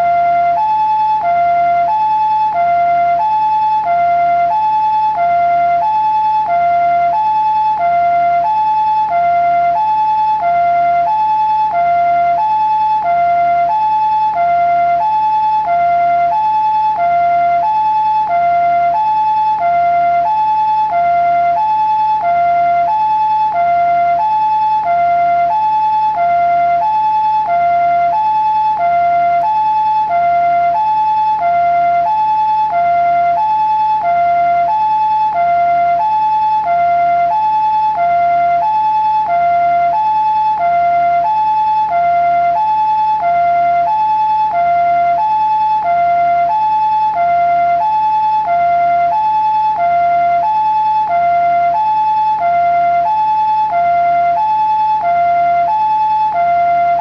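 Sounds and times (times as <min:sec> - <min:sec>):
ambulance two-tone siren: 0:00.0 - 0:57.0.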